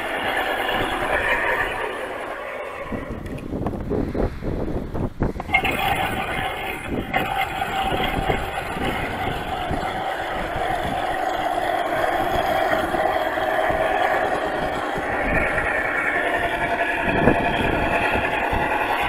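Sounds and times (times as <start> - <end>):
model boat engine running: 0.0 - 3.9, 4.6 - 19.0.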